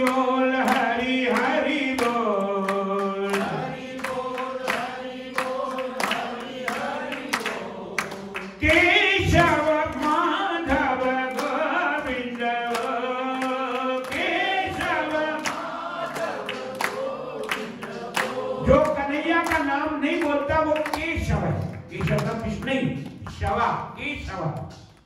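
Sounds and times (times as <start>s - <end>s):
group singing devotional song: 0.0s - 21.4s.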